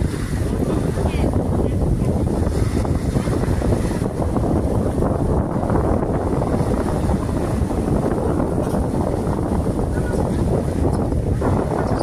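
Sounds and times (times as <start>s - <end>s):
small waves lapping on shore: 0.0s - 12.0s
wind buffeting microphone: 0.0s - 12.0s.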